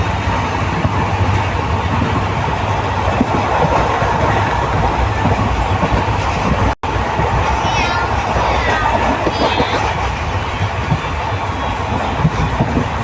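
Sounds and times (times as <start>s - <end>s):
rushing noise: 0.0s - 13.0s
train wheels rumbling on rails: 0.0s - 13.0s.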